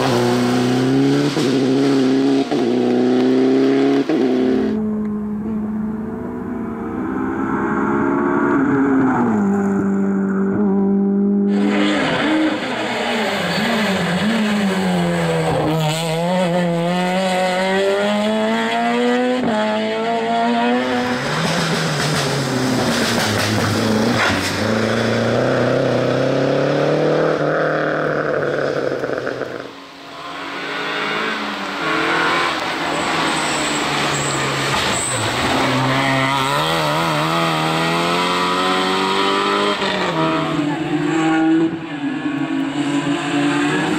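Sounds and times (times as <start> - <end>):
rally car engines revving hard: 0.0 - 5.6, 6.4 - 43.9.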